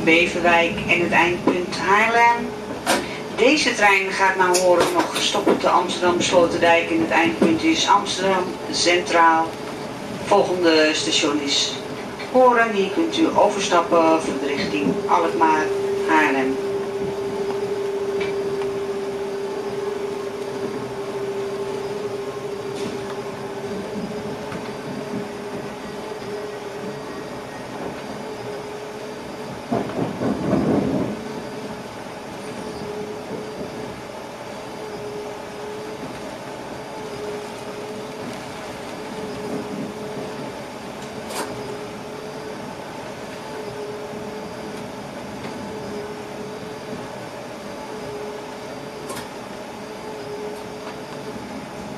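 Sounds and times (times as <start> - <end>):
train rolling noise: 0.0 - 51.9.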